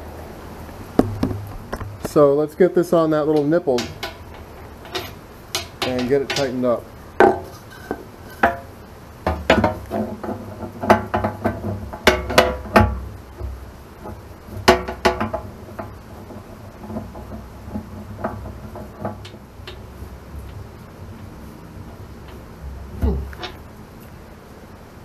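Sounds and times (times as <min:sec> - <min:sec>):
metal knocks and clunks: 0:01.0 - 0:02.2, 0:03.2 - 0:23.8.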